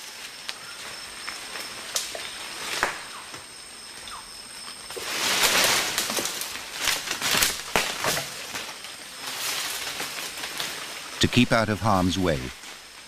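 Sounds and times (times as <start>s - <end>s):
branches cracking: 0.0s - 11.2s, 12.2s - 13.0s
high insect drone: 0.0s - 11.2s
leaves and branches rustling: 0.0s - 13.0s.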